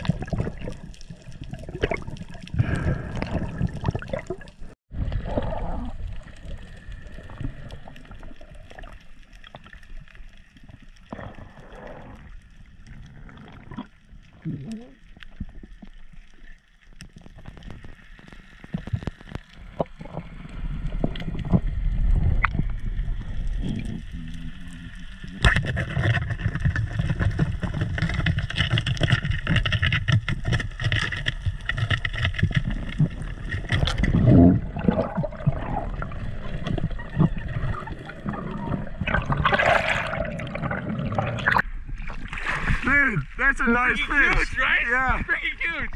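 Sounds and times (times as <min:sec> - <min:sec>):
underwater rush of water: 0:00.0 - 0:45.9
water splashing: 0:00.0 - 0:45.9.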